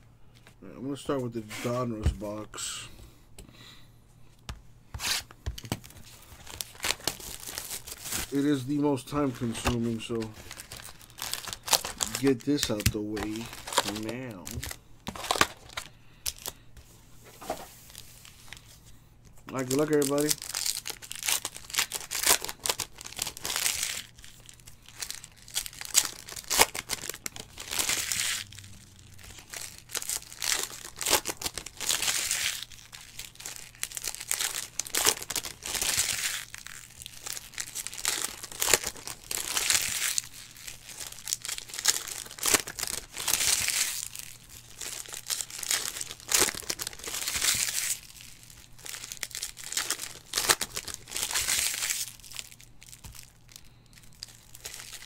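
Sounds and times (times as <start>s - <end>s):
foil wrappers crinkling and tearing: 5.0s - 16.7s, 17.4s - 18.8s, 19.4s - 55.0s.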